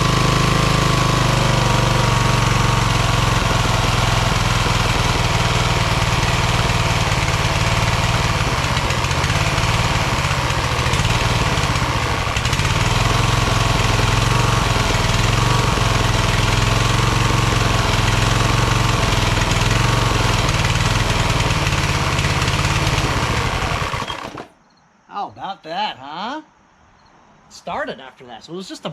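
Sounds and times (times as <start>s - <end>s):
lawn tractor engine running: 0.0s - 24.6s.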